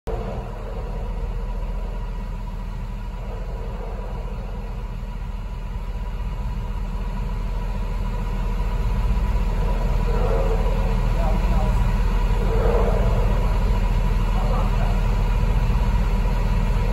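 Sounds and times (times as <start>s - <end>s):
diesel machinery idling: 0.0s - 16.9s
faint steady whine: 0.1s - 16.9s.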